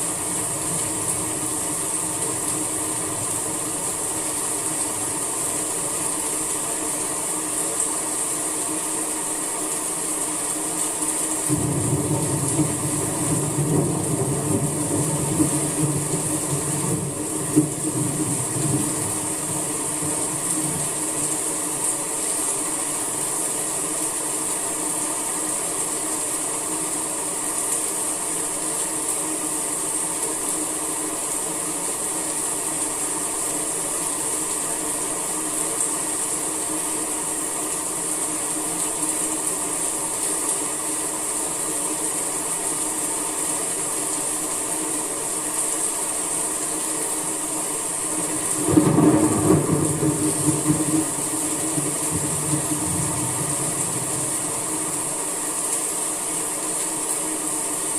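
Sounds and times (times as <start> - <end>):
rain hissing: 0.0 - 57.9.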